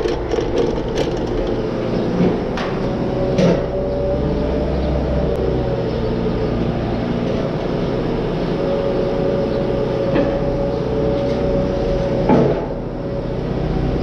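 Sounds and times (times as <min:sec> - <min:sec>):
garage door opener motor hum: 0:00.0 - 0:14.0.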